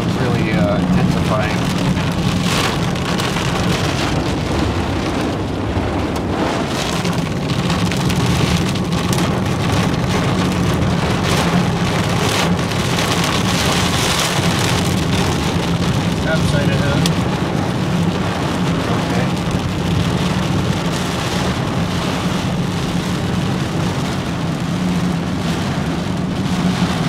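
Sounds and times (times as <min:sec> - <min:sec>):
heavy rain on car windshield: 0:00.0 - 0:27.0
road and engine rumble: 0:00.0 - 0:27.0.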